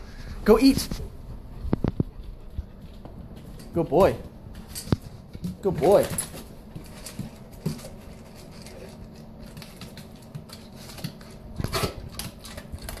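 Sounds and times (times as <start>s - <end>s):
dog crunching dry kibble: 1.7s - 13.0s.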